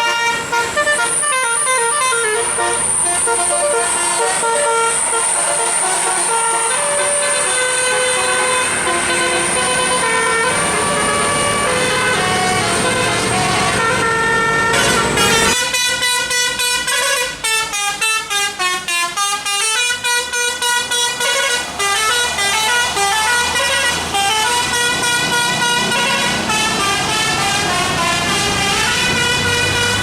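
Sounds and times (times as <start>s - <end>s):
bus engine rumble: 0.0s - 30.0s
musical air horn melody: 0.0s - 30.0s.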